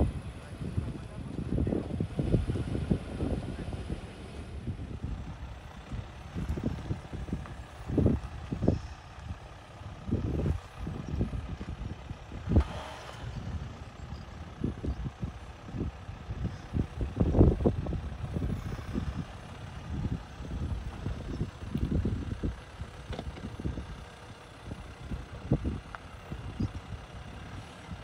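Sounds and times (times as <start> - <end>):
distant vehicle engine rumble: 0.0 - 28.0.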